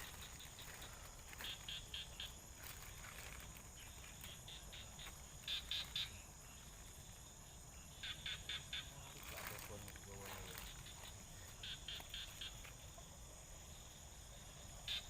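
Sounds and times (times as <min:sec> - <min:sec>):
frogs calling: 0:00.0 - 0:15.0.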